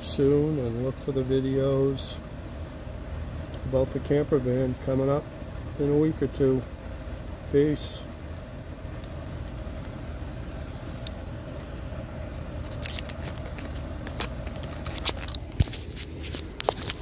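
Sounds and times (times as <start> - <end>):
faint hum: 0.0 - 17.0
low outdoor rumble: 0.0 - 17.0.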